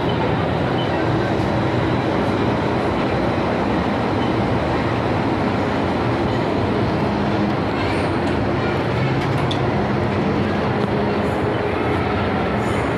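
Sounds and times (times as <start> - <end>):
train running: 0.0 - 12.9.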